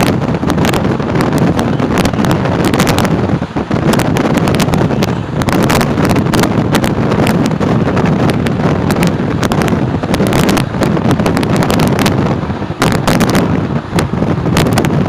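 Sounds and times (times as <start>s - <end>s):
train rumble: 0.0s - 15.0s
wind on microphone: 0.0s - 15.0s.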